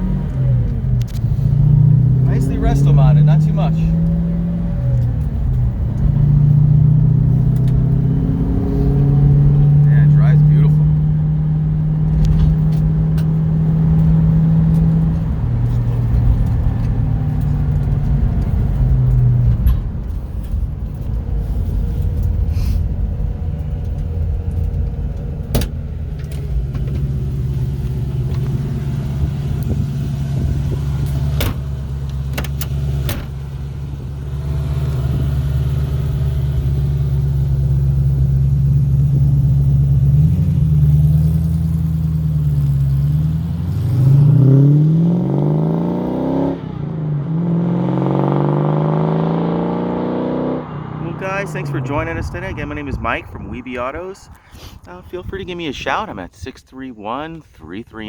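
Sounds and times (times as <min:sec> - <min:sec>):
car engine running: 0:00.0 - 0:46.0, 0:47.2 - 0:56.0.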